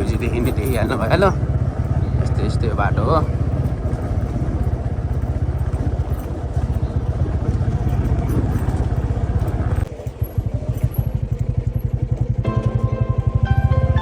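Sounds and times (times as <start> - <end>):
vehicle engine on dirt road: 0.0 - 14.0.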